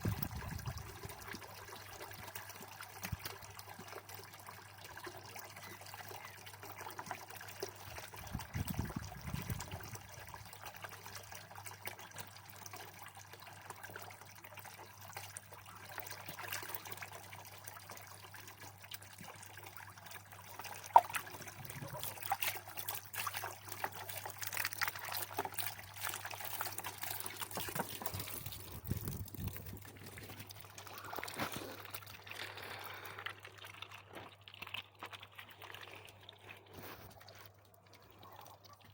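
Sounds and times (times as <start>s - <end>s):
water pouring and trickling: 0.0s - 38.9s.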